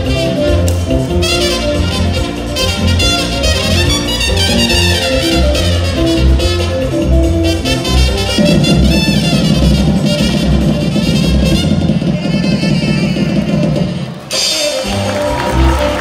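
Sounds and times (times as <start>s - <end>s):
circus band music: 0.0s - 16.0s
drum roll: 0.0s - 16.0s.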